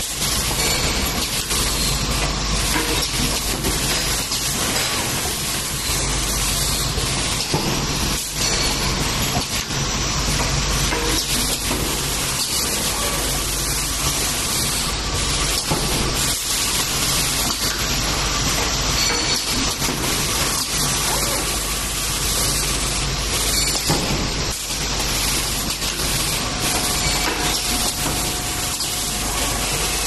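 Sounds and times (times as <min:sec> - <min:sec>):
machine running with dense noise: 0:00.0 - 0:30.0.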